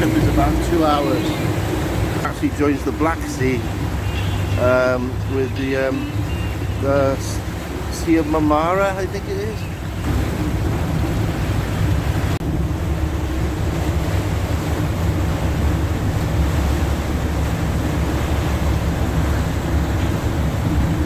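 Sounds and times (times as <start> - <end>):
boat engine hum: 0.0 - 21.0
water rushing: 0.0 - 21.0
wind buffeting microphone: 0.0 - 21.0.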